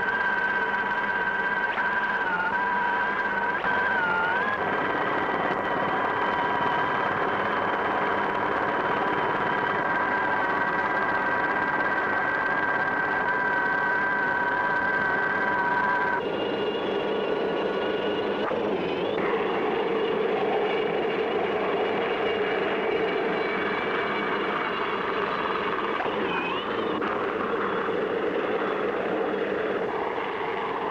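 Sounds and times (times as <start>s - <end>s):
helicopter turbine whine: 0.0s - 30.9s.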